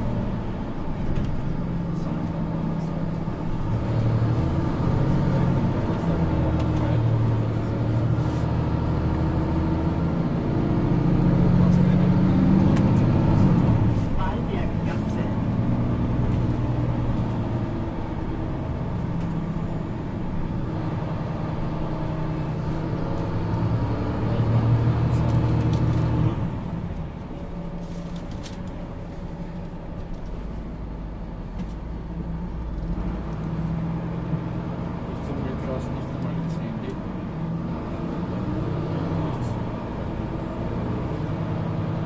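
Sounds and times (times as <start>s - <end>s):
bus engine running: 0.0s - 42.0s.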